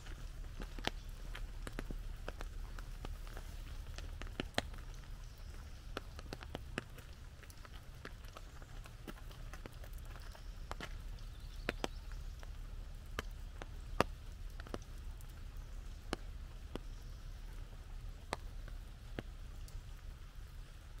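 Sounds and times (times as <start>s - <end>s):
low steady rumble: 0.0s - 21.0s
raindrops tapping on umbrella: 0.0s - 21.0s.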